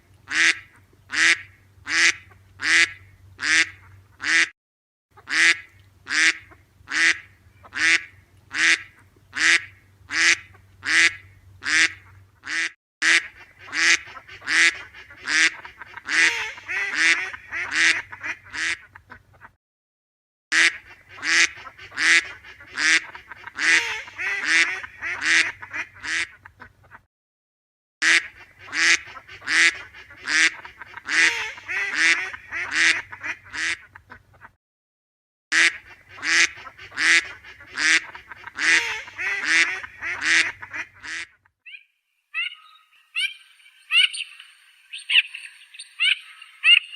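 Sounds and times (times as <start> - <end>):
ducks quacking: 0.3 - 4.5, 5.2 - 19.6, 20.6 - 27.0, 28.0 - 34.6, 35.6 - 41.4, 42.4 - 46.9.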